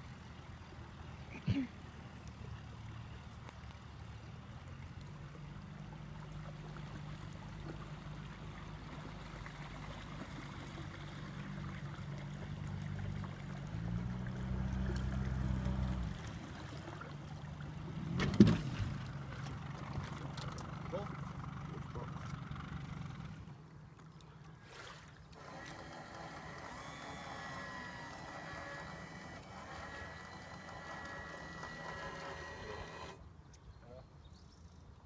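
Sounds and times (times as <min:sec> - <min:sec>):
motorboat engine running: 0:00.0 - 0:33.5.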